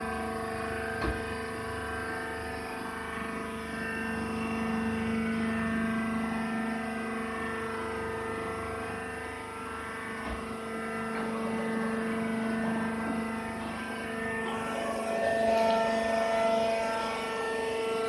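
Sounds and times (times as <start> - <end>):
baler hydraulic pump humming: 0.0 - 18.0.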